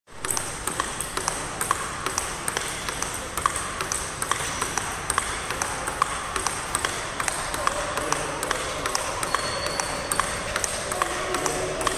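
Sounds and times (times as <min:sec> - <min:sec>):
table tennis ball pocks: 0:00.2 - 0:11.9.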